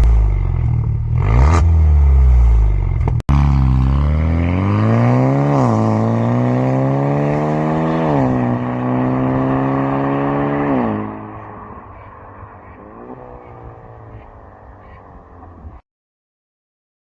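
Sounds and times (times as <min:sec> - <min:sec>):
car engine accelerating hard: 0:01.2 - 0:15.8.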